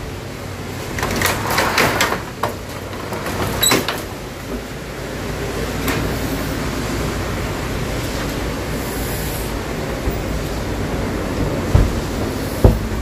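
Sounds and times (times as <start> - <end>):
elevator rumbling: 0.0 - 13.0.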